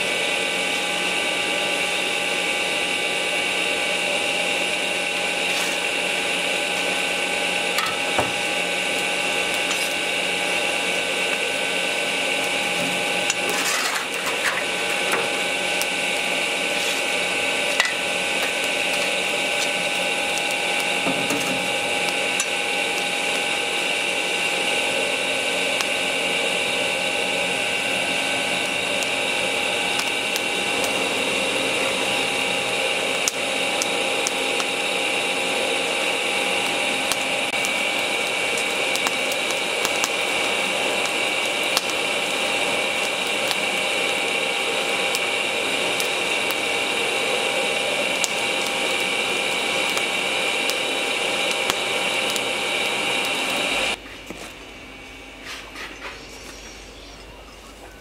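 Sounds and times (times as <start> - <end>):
charcoal crackling: 0.0 - 54.6
electric fan whirring: 0.0 - 58.0.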